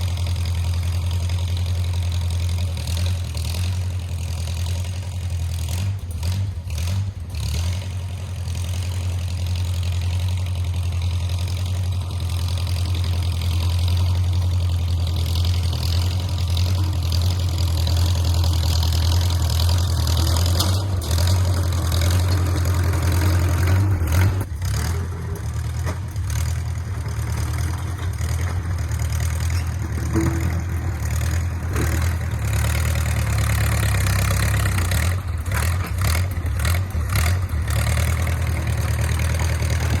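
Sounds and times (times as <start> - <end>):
bulldozer engine running: 0.0 - 40.0.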